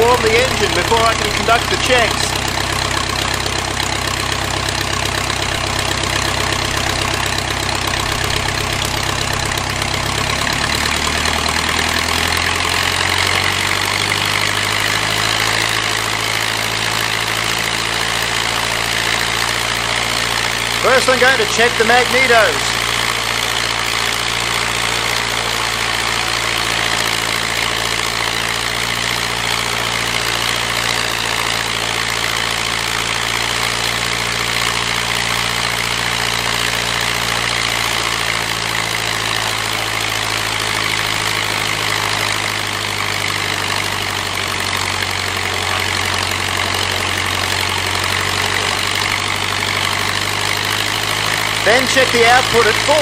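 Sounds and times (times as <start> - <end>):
aircraft engine running: 0.0 - 53.0.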